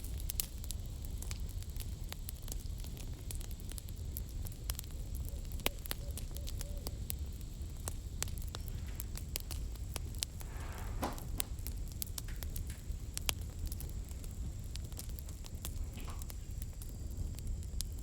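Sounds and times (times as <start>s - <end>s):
campfire crackling: 0.0s - 18.0s
low rumble of flames: 0.0s - 18.0s.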